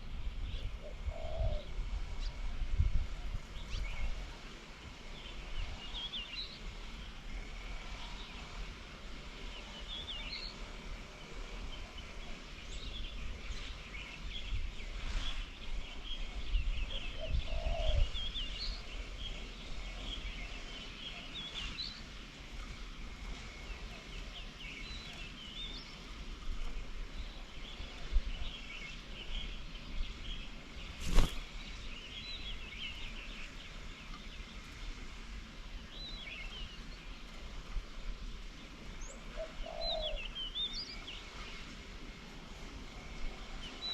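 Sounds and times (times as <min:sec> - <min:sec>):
small birds chirping: 0:03.3 - 0:43.9.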